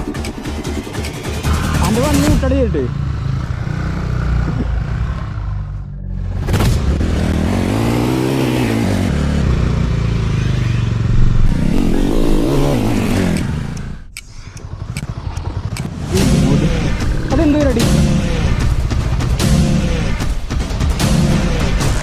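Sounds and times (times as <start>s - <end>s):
vehicle engine revving: 1.2s - 22.0s.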